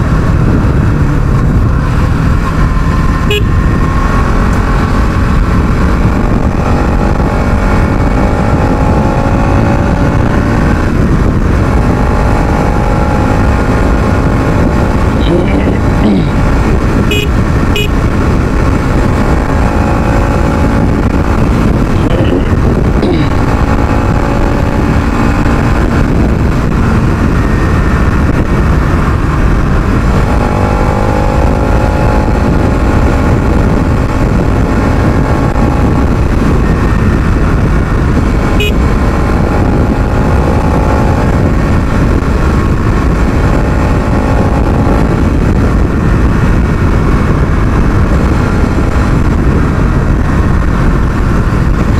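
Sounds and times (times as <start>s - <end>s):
motorcycle engine revving: 0.0s - 51.9s
wind noise on microphone: 0.0s - 51.9s.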